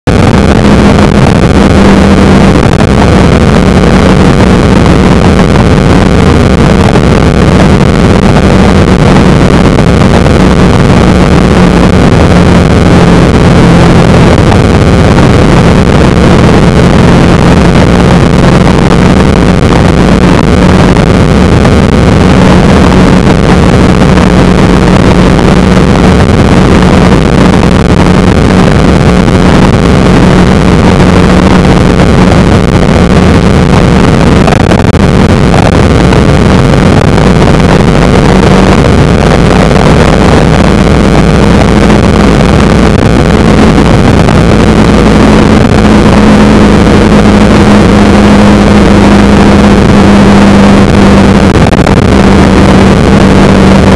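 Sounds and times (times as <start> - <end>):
motorcycle engine hum: 0.0 - 53.9
wind and road noise: 0.0 - 53.9.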